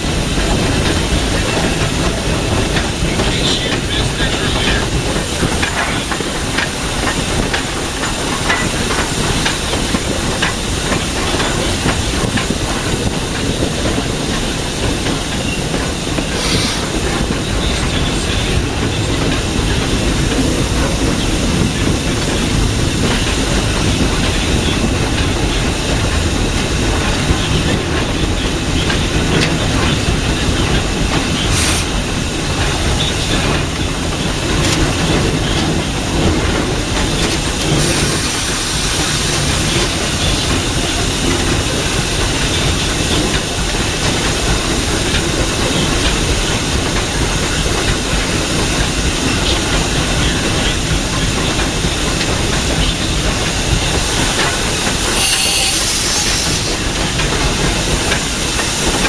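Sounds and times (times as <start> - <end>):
steam locomotive running: 0.0 - 59.0
steam hissing: 0.1 - 27.8, 30.9 - 33.6, 34.4 - 59.0.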